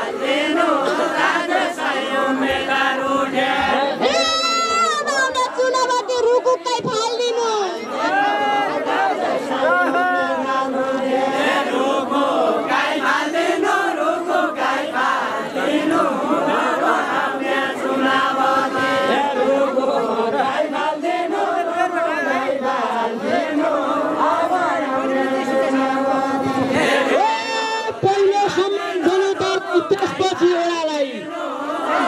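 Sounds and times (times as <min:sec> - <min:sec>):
group singing folk song: 0:00.0 - 0:04.4, 0:07.9 - 0:32.0.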